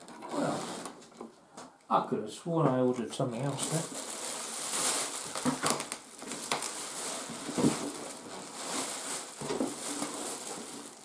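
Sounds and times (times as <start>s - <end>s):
plastic film crinkling: 0.0s - 1.2s, 3.2s - 11.0s.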